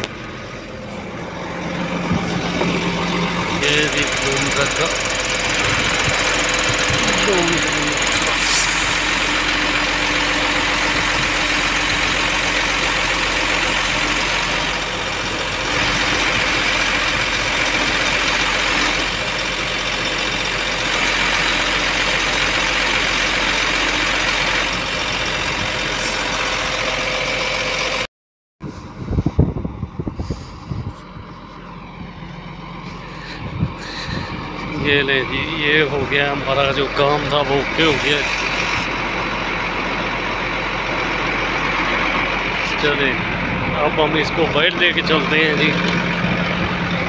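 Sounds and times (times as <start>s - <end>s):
truck engine and hydraulic pump drone: 0.0s - 47.0s.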